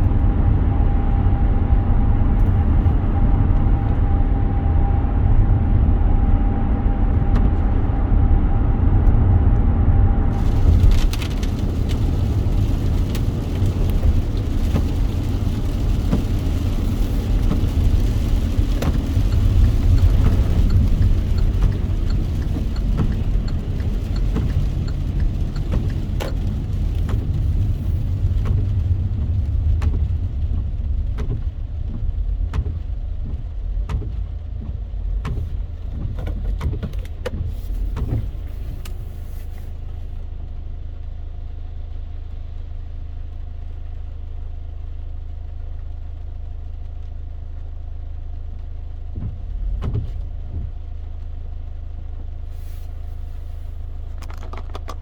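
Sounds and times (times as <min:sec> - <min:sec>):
car engine idling hum: 0:00.0 - 0:55.0
raindrops ticking on car body: 0:00.0 - 0:55.0
road rumble: 0:00.0 - 0:55.0.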